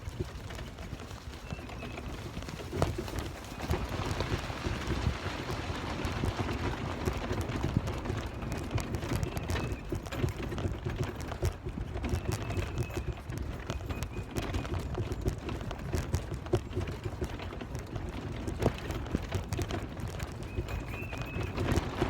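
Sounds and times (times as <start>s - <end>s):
low rumble of wind: 0.0s - 22.0s.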